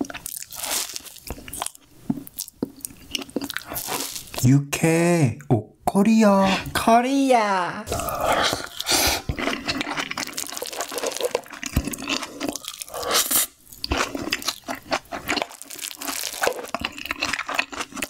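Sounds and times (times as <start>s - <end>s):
person chewing food: 0.0s - 4.4s, 7.9s - 18.0s.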